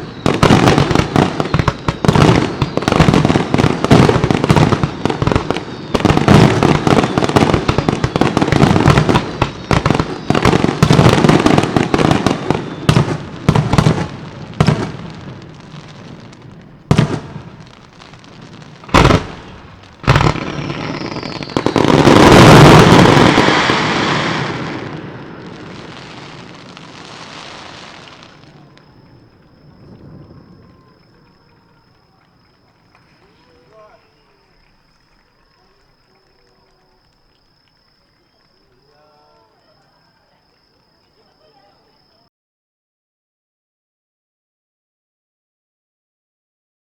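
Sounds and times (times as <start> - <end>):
firework shells bursting: 0.0 - 42.2.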